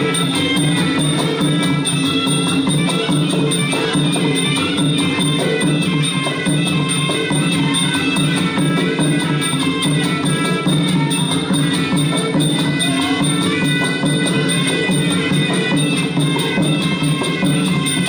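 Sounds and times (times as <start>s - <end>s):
drums beating: 0.0s - 18.0s
reed pipe melody: 0.0s - 18.0s
small cymbals: 0.0s - 18.0s.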